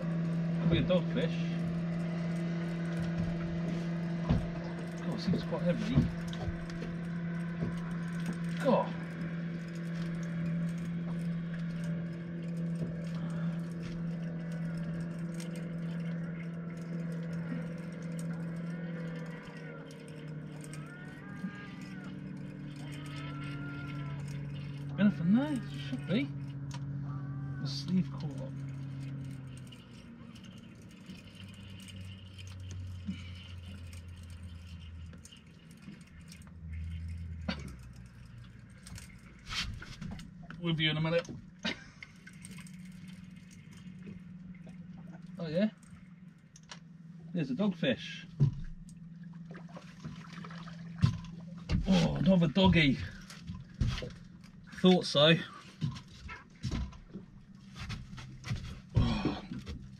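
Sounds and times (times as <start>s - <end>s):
fishing reel clicking: 0.0s - 56.1s
boat engine idling: 0.0s - 59.9s
low hum: 0.0s - 59.9s.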